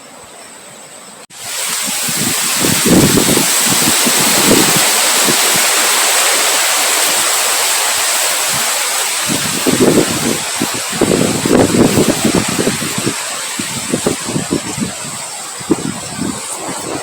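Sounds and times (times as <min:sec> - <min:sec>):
rain hissing: 0:01.3 - 0:17.0
wind buffeting microphone: 0:01.3 - 0:17.0.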